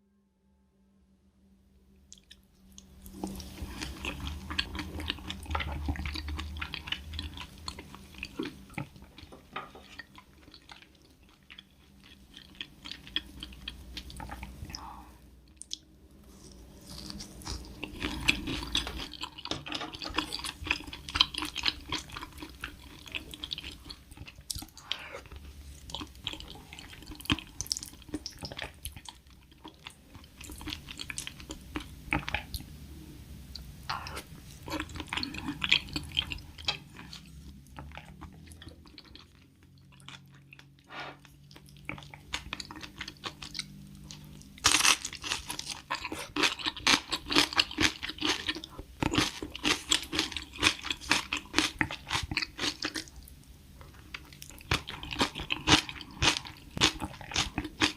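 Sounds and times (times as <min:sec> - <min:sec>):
wet chewing: 0:02.1 - 0:32.7, 0:33.9 - 0:57.9.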